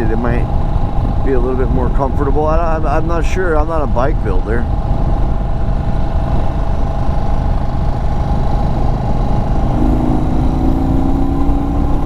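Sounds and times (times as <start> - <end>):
motorcycle engine rumbling: 0.0 - 12.0
steady hum: 0.0 - 12.0.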